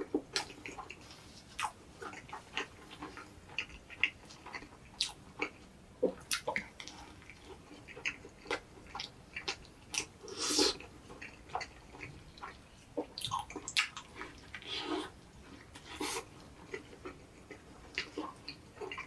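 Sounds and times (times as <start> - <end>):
wet chewing sounds: 0.0 - 19.0.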